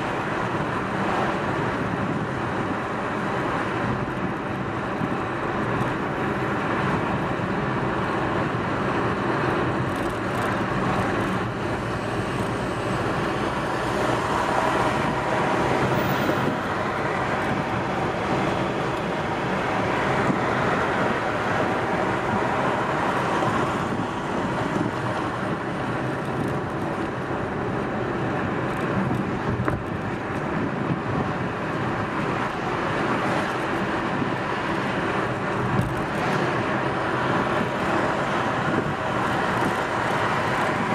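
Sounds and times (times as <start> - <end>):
low engine hum: 0.0 - 40.9
tyre and road noise: 0.0 - 40.9.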